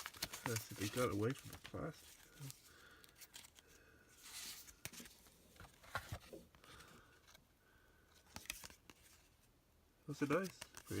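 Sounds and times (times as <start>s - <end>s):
paper cards rustling and clicking: 0.0s - 7.4s, 8.1s - 9.4s, 10.1s - 11.0s.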